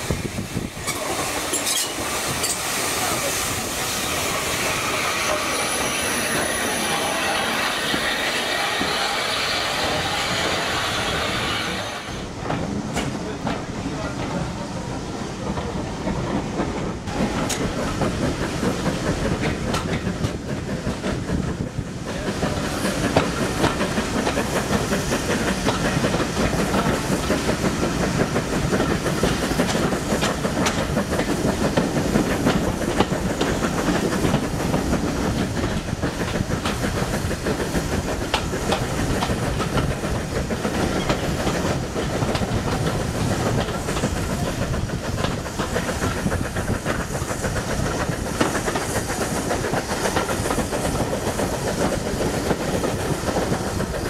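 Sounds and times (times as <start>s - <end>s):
steam hissing from locomotive: 0.0s - 15.8s, 17.0s - 54.0s
train wheels clattering over rail joints: 0.3s - 54.0s.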